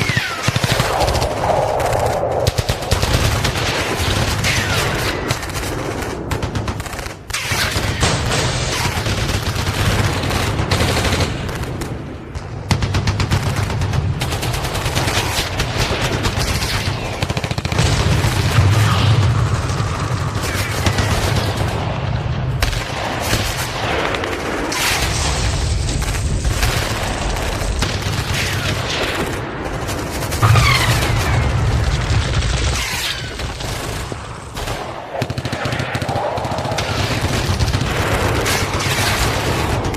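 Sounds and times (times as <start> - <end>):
gunfire: 0.0 - 39.9.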